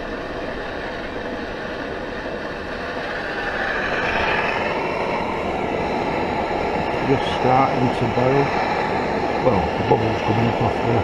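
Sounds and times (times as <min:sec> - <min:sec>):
gas stove roaring: 0:00.0 - 0:11.0.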